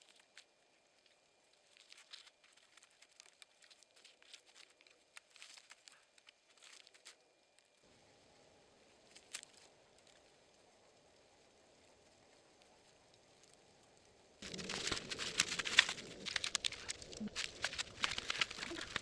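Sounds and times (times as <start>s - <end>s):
dry leaves and twigs crackling: 0.0s - 19.0s
faint steady hiss: 0.0s - 19.0s.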